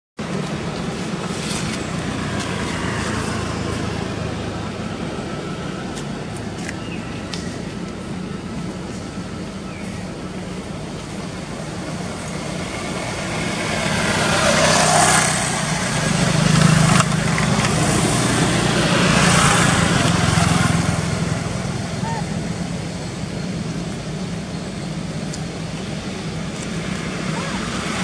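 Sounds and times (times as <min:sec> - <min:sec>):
vehicle engine hum: 0:00.2 - 0:28.0.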